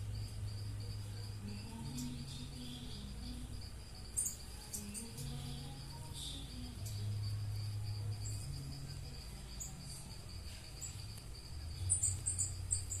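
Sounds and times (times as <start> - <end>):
birds chirping: 0.0 - 13.0
low hum: 0.0 - 13.0.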